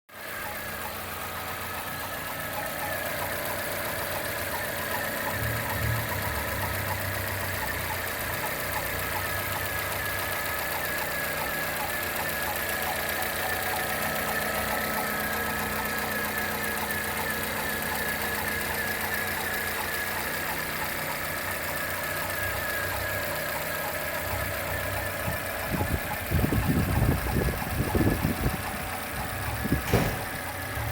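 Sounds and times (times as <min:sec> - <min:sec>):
car engine idling: 0:00.1 - 0:30.9
fast light engine ticking: 0:00.1 - 0:30.9.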